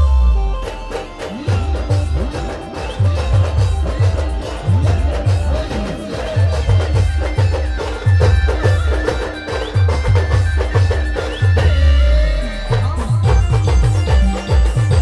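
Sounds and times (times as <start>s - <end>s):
band playing dance music: 0.0s - 15.0s
drums: 0.0s - 15.0s
heavy bass beat: 0.0s - 15.0s.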